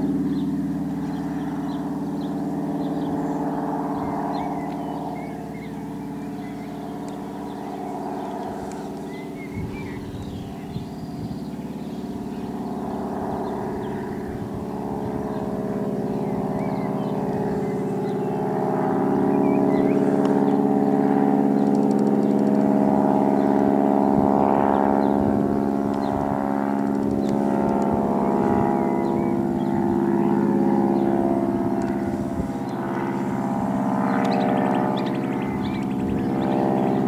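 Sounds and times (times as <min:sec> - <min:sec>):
propeller plane engine overhead: 0:00.0 - 0:37.0.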